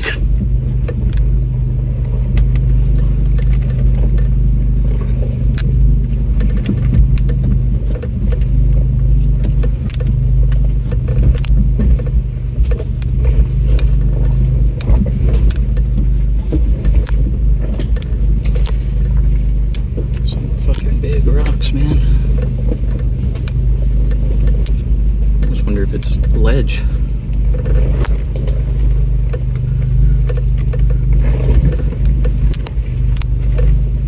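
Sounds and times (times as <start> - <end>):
body and tyres rattling over rocks: 0.0 - 34.0
truck engine running low: 0.0 - 34.0.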